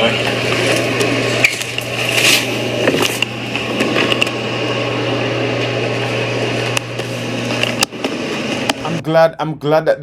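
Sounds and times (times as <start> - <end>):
machine hum: 0.0 - 9.9.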